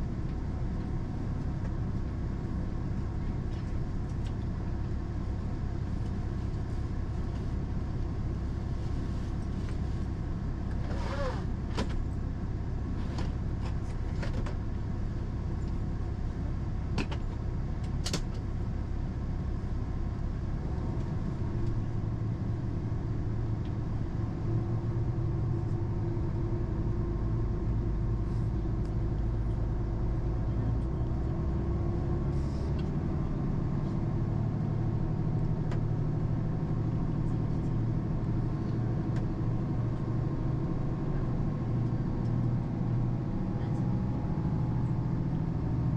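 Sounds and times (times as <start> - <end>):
low hum from running gear: 0.0 - 45.9
train rumbling inside carriage: 0.0 - 45.9.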